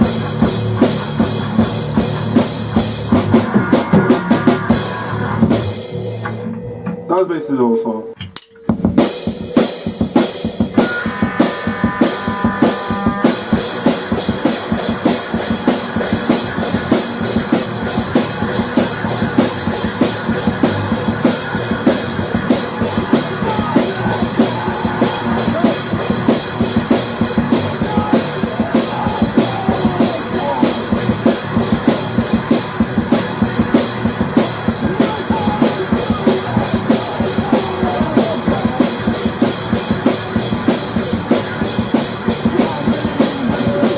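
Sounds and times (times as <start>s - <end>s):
bass drum and snare beat: 0.0s - 6.5s, 8.6s - 43.9s
rock music: 0.0s - 43.9s.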